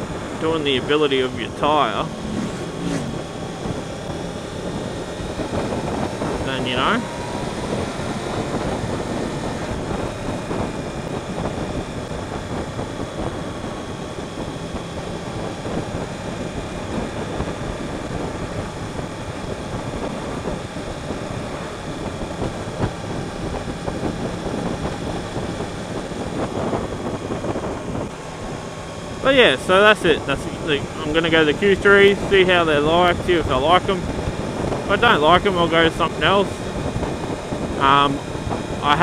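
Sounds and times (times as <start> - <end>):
motorcycle engine running: 0.0 - 39.0
road noise: 0.0 - 39.0
wind rush: 0.0 - 39.0.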